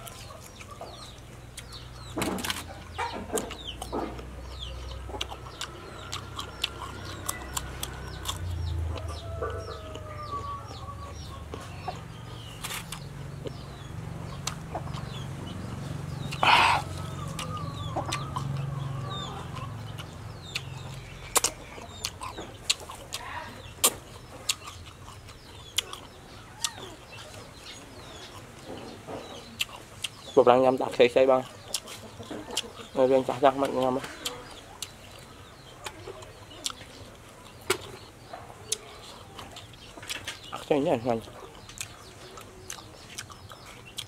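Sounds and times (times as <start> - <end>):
man chewing with mouth clicks: 0.0 - 10.2, 11.1 - 30.3, 31.4 - 44.0
chickens clucking: 0.0 - 44.0.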